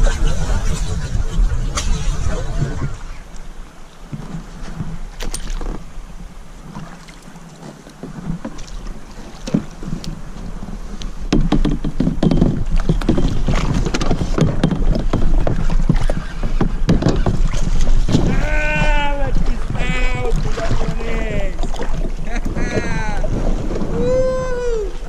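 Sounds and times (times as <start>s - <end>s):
wind rumbling on microphone: 0.0s - 7.4s, 8.0s - 25.0s
water splashing against kayak: 0.0s - 25.0s.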